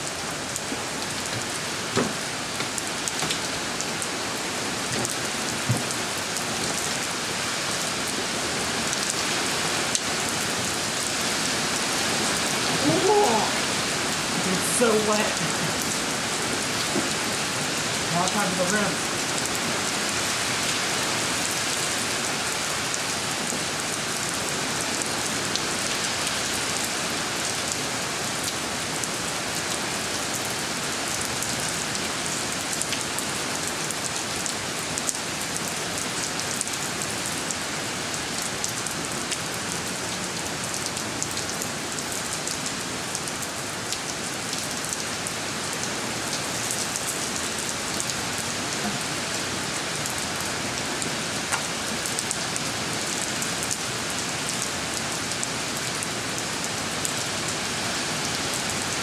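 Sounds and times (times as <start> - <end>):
rain on concrete and puddles: 0.0 - 59.0.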